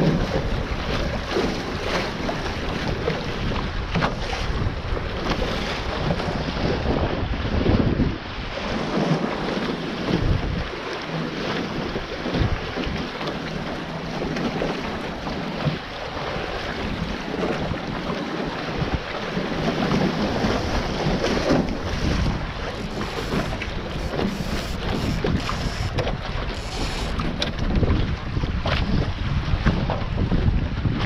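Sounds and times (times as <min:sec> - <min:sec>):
water rushing along hulls: 0:00.0 - 0:31.0
wind buffeting microphone: 0:00.0 - 0:31.0.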